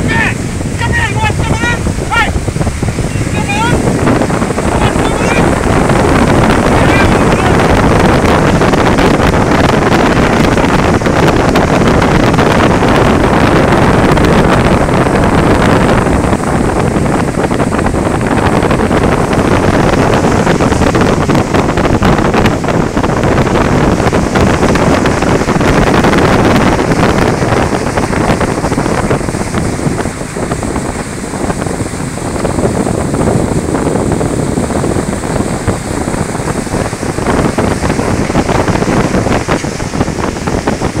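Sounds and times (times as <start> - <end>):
boat engine running: 0.0 - 41.0
boat wake churning: 0.0 - 41.0
wind on microphone: 0.0 - 41.0.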